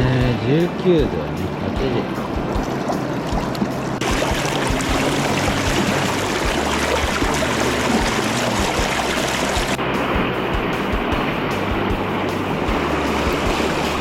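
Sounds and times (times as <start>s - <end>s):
river rushing: 0.7s - 14.0s.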